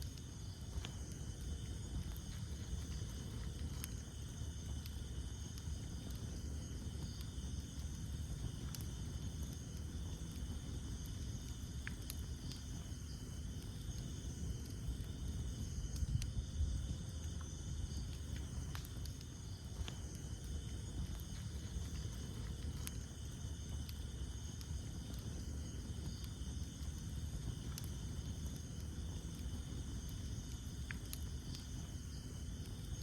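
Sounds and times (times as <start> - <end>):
campfire burning: 0.0 - 33.0
night insects chirping: 0.0 - 33.0
wood crackling: 0.0 - 33.0.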